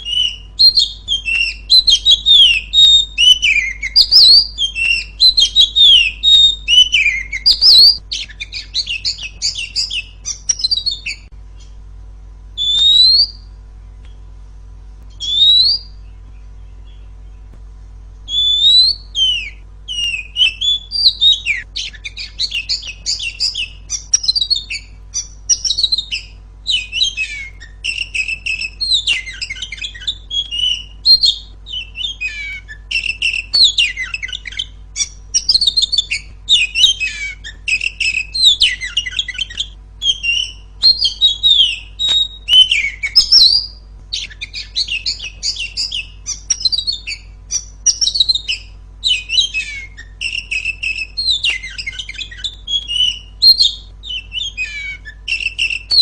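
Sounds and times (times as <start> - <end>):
bird singing chirps and trills: 0.0 - 11.9, 12.5 - 14.4, 15.0 - 56.0.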